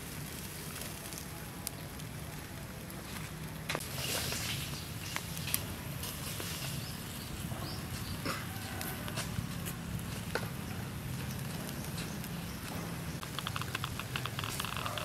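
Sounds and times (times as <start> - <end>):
charcoal pops and crackles: 0.1 - 15.0.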